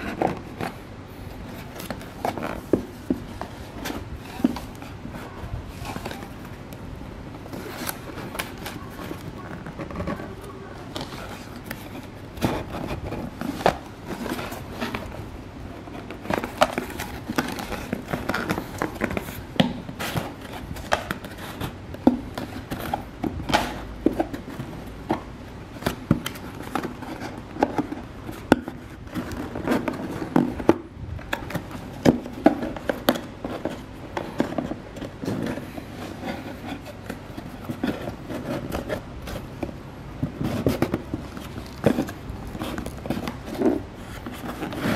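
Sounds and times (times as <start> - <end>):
packaging scrapes and rustles: 7.4 - 44.9.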